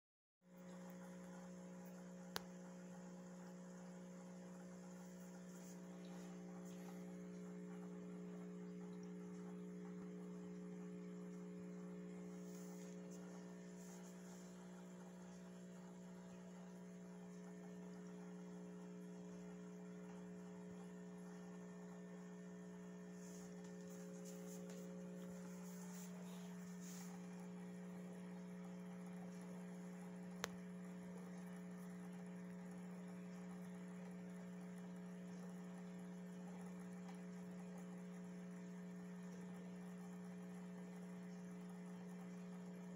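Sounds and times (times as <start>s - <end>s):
faint electrical hum: 0.5s - 42.9s.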